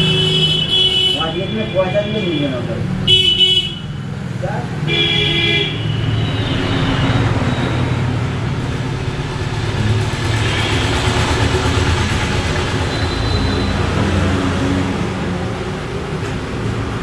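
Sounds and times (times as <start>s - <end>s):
vehicle engines passing: 0.0s - 3.1s, 3.8s - 17.0s
road noise: 0.0s - 17.0s.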